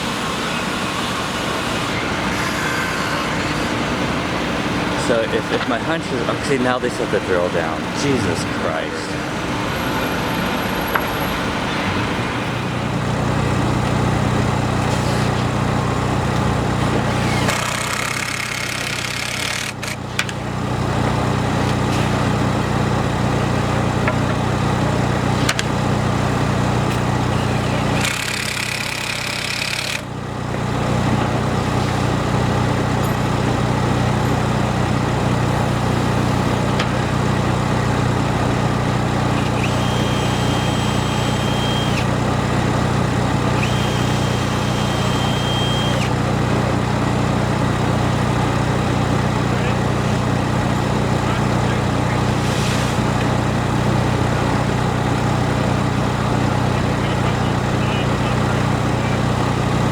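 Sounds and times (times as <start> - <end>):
large engine running: 0.0 - 59.9.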